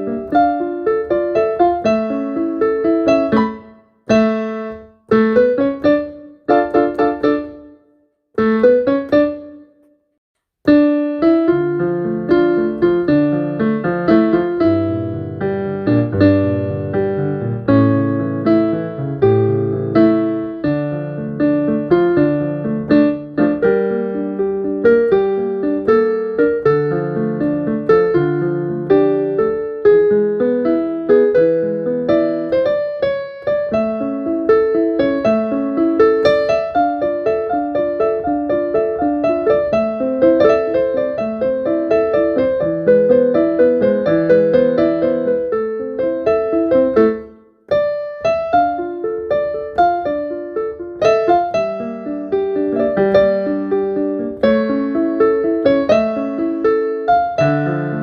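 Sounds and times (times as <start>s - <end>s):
solo piano playing: 0.0s - 58.0s.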